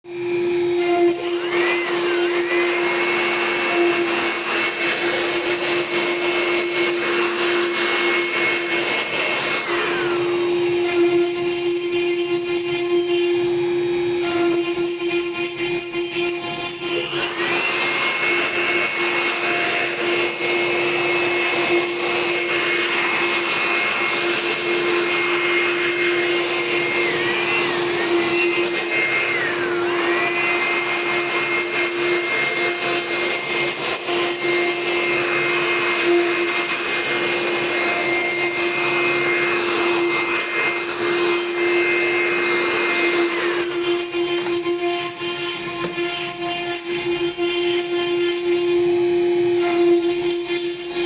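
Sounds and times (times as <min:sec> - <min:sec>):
machine high whine: 0:00.1 - 0:51.0.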